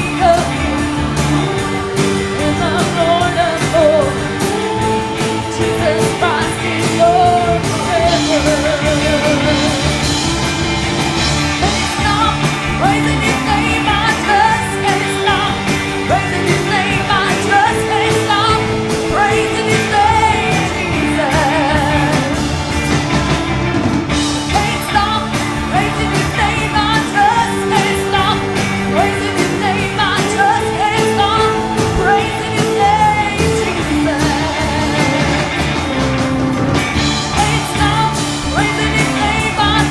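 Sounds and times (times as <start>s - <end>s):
live band worship music: 0.0s - 39.9s.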